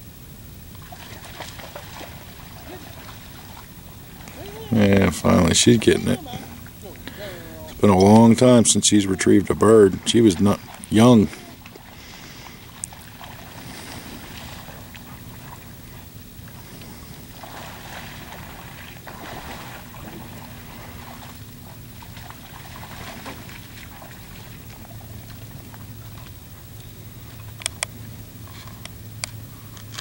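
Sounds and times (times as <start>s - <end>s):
low background rumble: 0.0s - 30.0s
water sloshing: 0.7s - 27.6s.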